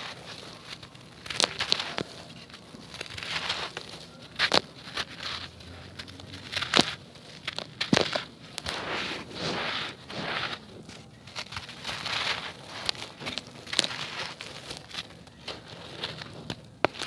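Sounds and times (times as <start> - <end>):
concrete crunching: 0.0 - 17.0
crumbs trickling: 0.0 - 17.0.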